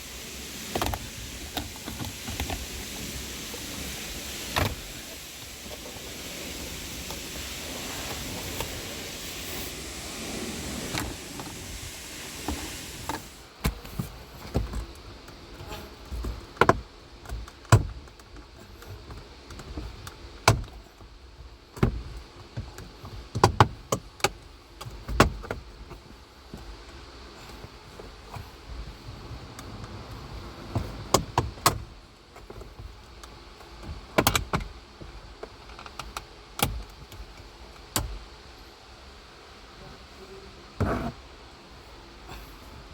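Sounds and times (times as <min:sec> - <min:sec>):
air conditioning blower fan: 0:00.0 - 0:42.9.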